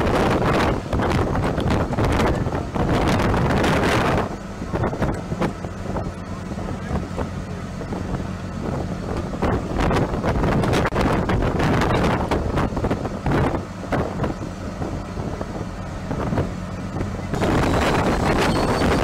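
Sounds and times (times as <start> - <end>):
low machine hum: 0.0 - 19.0
wind buffeting microphone: 0.0 - 19.0.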